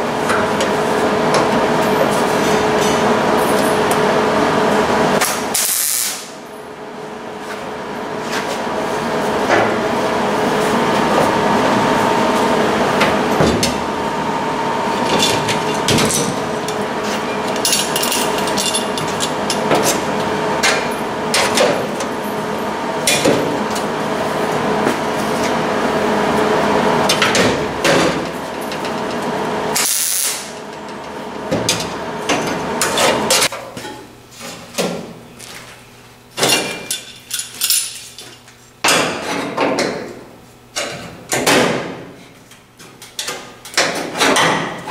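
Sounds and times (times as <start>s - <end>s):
steady mechanical noise: 0.0s - 44.9s.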